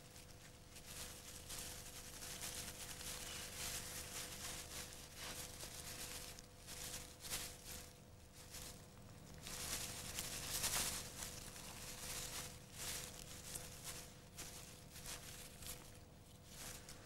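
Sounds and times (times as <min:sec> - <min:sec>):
dry leaves rustling: 0:00.0 - 0:17.0.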